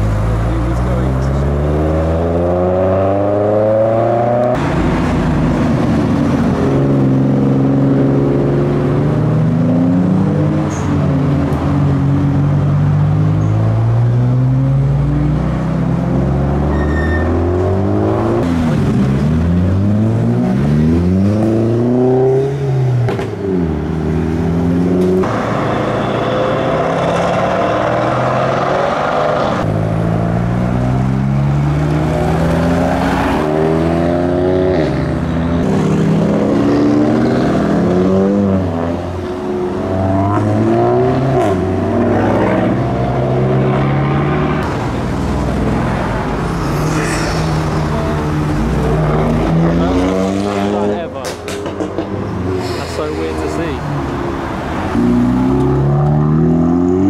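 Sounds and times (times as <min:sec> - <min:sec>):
cars accelerating away: 0:00.0 - 0:57.0.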